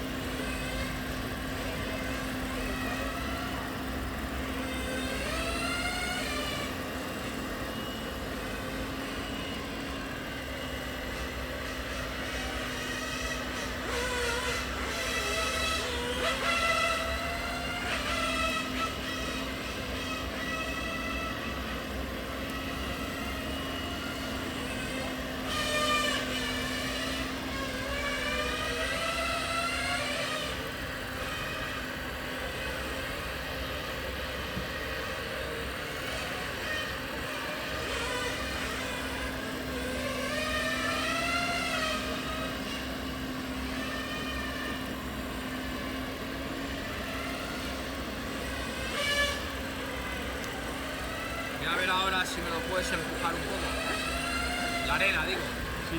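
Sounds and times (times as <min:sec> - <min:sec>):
model truck engines: 0:00.0 - 0:55.9
steady hum: 0:00.0 - 0:55.9.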